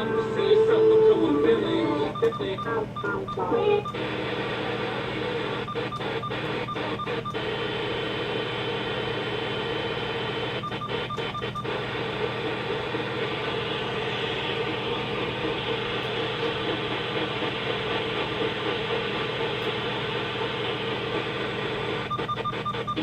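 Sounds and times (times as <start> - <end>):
radio static hiss: 0.2 - 23.0.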